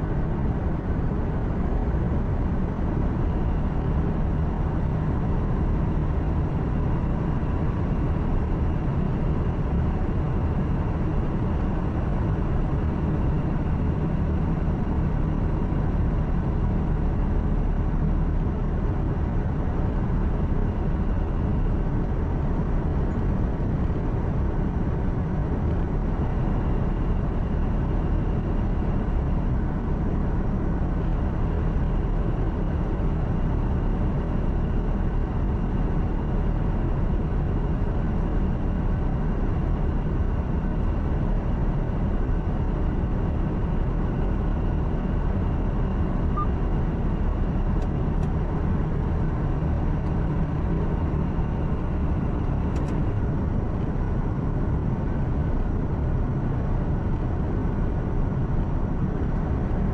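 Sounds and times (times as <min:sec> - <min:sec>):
faint steady whine: 0:00.0 - 0:59.9.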